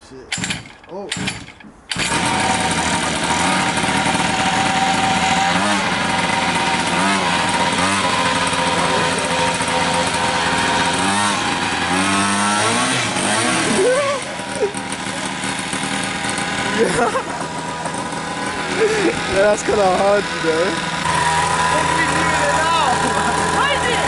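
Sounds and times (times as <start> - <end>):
mini motorbike engine revving: 0.3 - 24.0.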